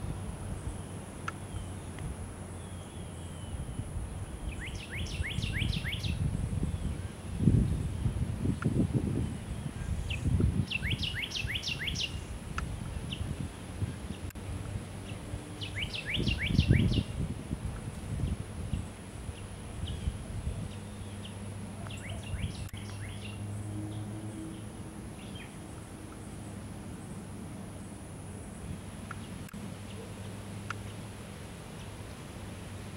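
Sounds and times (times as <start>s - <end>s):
low rumbling microphone noise: 0.0s - 32.9s
songbird singing: 0.0s - 32.9s.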